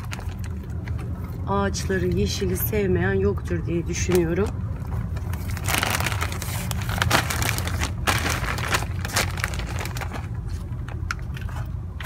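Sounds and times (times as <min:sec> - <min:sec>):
crackling handling noises: 0:00.0 - 0:02.7, 0:03.9 - 0:12.0
steady low rumble: 0:00.0 - 0:12.0.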